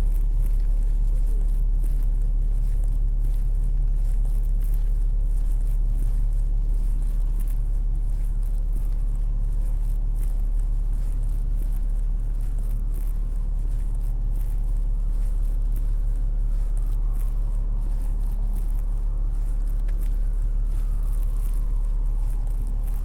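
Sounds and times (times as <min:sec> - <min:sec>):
city traffic rumble: 0:00.0 - 0:23.0
faint distant siren: 0:00.0 - 0:23.0
footsteps on snowy sidewalk: 0:00.0 - 0:23.0.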